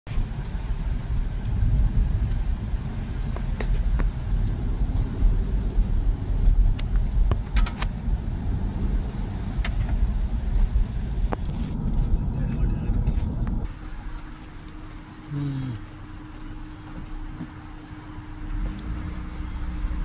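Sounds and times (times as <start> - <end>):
car engine and road rumble: 0.0 - 20.0
light ticks and clicks: 1.3 - 2.6, 3.2 - 8.2, 9.4 - 20.0.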